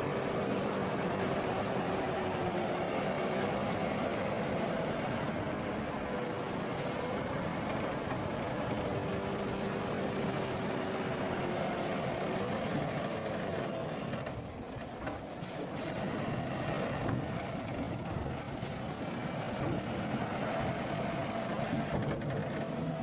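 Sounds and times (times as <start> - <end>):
heavy diesel machinery engine: 0.0 - 23.0.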